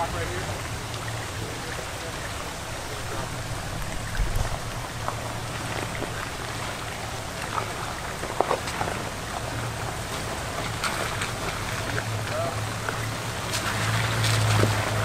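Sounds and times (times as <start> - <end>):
low engine hum: 0.0 - 15.0
tyres crunching over gravel: 2.4 - 15.0.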